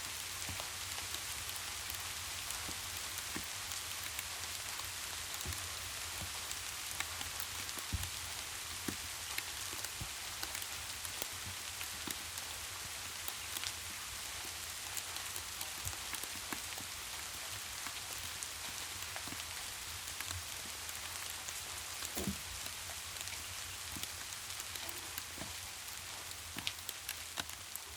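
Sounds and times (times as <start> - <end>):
steady rain: 0.0 - 27.9
fire crackling and popping: 0.1 - 27.9.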